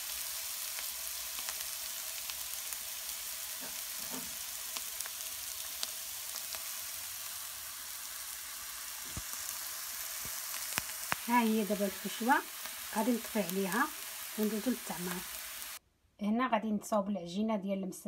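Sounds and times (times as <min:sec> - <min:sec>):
vegetables sizzling in a frying pan: 0:00.0 - 0:15.8.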